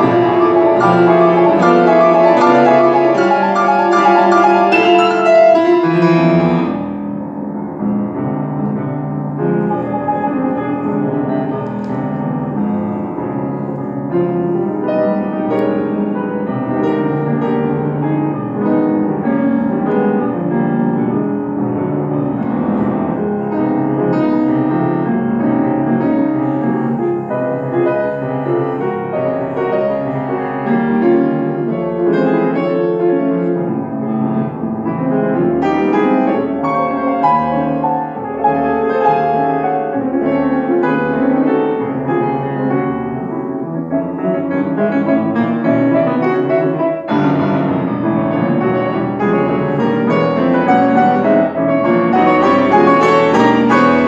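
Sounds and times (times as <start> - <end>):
grand piano piece: 0.0 - 54.0.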